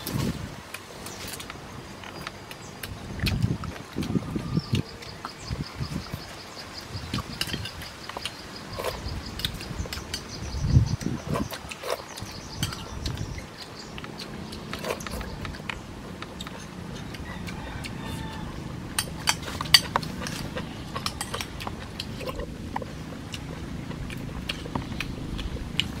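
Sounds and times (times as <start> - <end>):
person chewing and lip-smacking: 0.7 - 5.4, 7.0 - 26.0.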